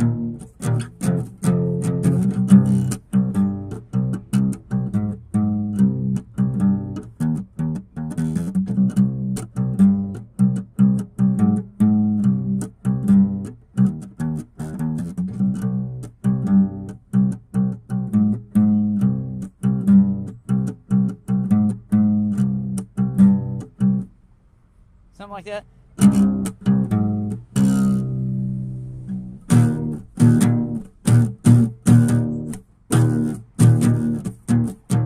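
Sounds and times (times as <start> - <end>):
plucked string notes: 0.0 - 24.1, 26.0 - 35.0.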